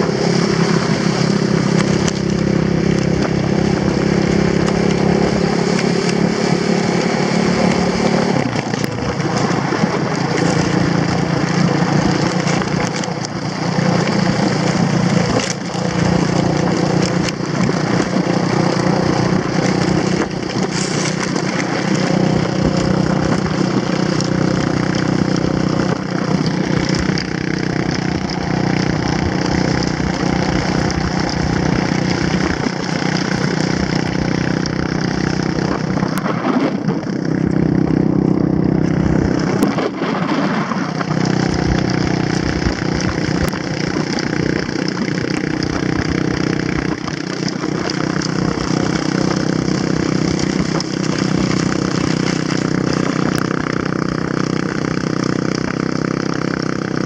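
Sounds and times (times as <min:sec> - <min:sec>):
quad engine running: 0:00.0 - 0:57.0
sled rushing over snow: 0:00.0 - 0:57.0.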